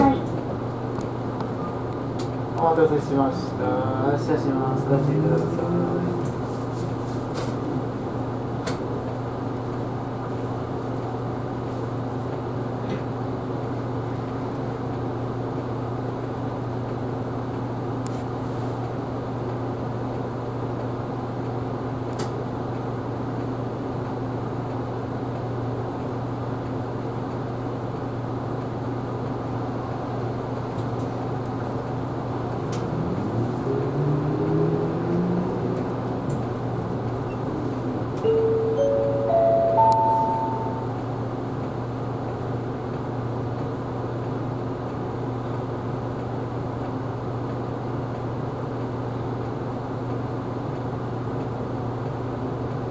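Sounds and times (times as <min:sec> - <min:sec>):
bus engine drone: 0:00.0 - 0:52.9.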